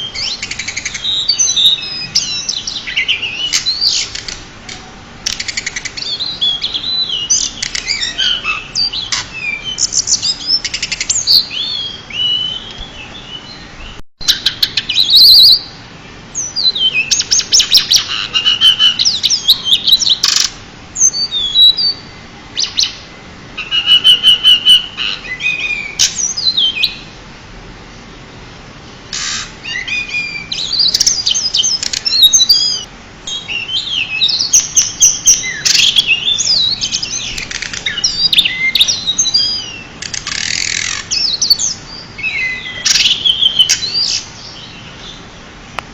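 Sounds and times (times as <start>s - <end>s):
bird singing high chirps: 0.0s - 4.4s, 5.3s - 27.1s, 29.2s - 45.4s.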